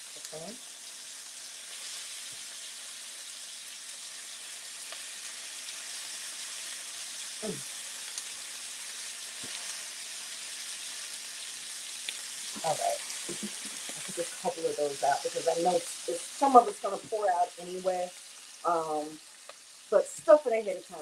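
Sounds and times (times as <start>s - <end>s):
steak sizzling in a pan: 0.0s - 21.0s.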